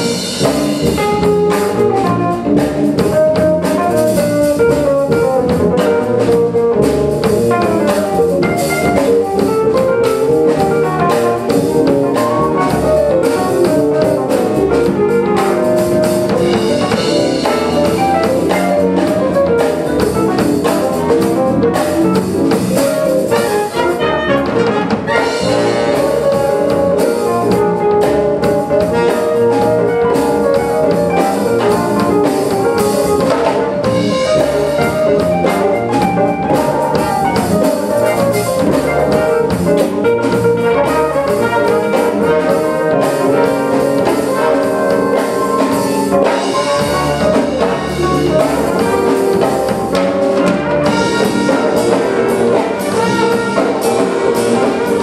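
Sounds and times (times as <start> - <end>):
drum kit: 0.0 - 55.0
electric bass: 0.0 - 55.0
trumpets and trombones: 10.1 - 55.0.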